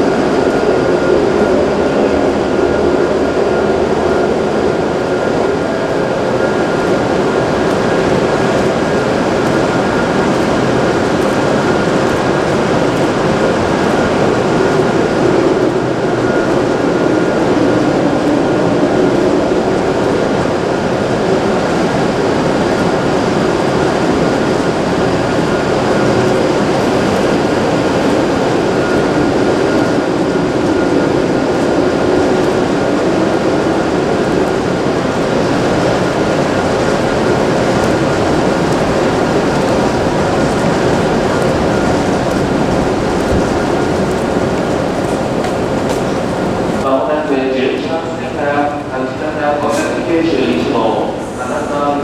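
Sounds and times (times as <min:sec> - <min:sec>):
train equipment hum and whir: 0:00.0 - 0:52.0.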